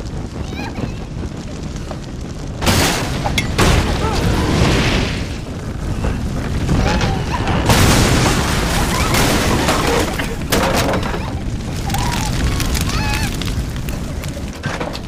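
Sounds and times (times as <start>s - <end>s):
fire bursting booms: 0.0s - 15.0s
flames burning: 0.0s - 15.0s.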